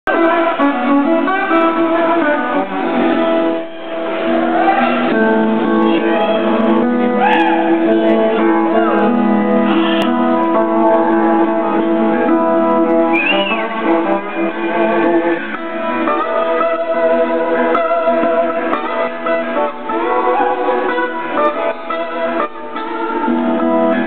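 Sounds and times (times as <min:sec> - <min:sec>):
slide guitar playing: 0:00.1 - 0:24.0.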